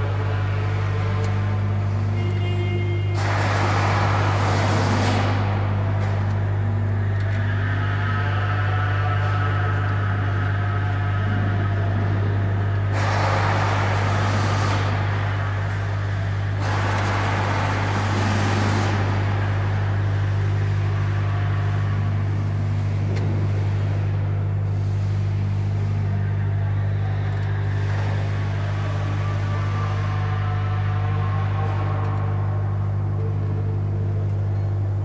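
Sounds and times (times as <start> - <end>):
factory machinery hum: 0.0 - 35.0
rushing machine noise: 0.0 - 35.0.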